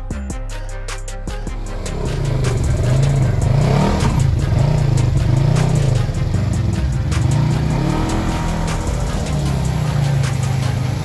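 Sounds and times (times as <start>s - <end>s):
utility vehicle engine revving: 1.5s - 11.0s.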